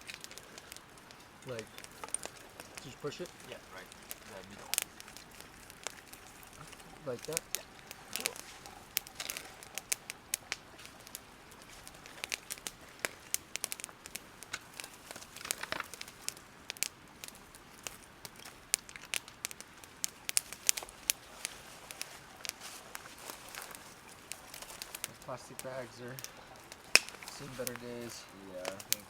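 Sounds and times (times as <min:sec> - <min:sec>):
plastic bag crinkling: 0:00.0 - 0:16.3, 0:20.4 - 0:29.0.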